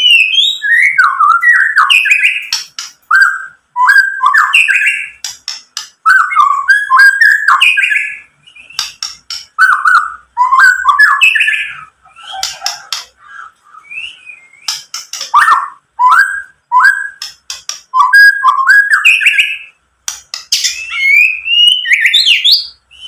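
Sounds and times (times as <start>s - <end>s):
bird singing whistled notes: 0.0s - 5.3s, 6.0s - 19.8s, 20.5s - 23.0s.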